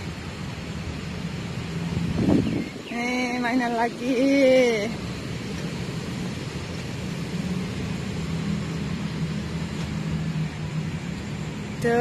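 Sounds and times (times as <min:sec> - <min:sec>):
low engine hum: 0:00.0 - 0:12.0
road traffic noise: 0:00.0 - 0:12.0.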